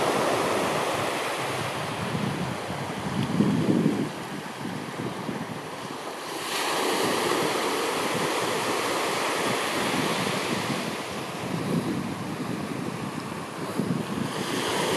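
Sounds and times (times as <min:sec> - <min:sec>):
sea surf washing on shore: 0:00.0 - 0:14.9
wind buffeting microphone: 0:00.0 - 0:14.9.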